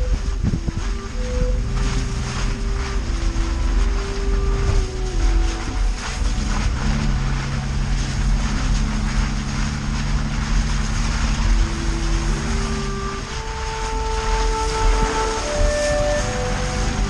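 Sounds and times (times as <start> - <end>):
tyre noise: 0.0 - 17.0
vehicle engine running: 0.0 - 17.0
wind: 0.0 - 17.0.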